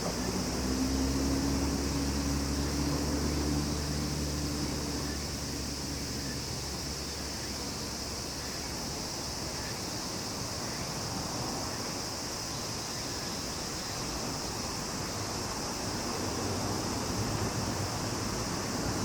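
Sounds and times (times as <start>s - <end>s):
insects sizzling chorus: 0.0s - 19.0s.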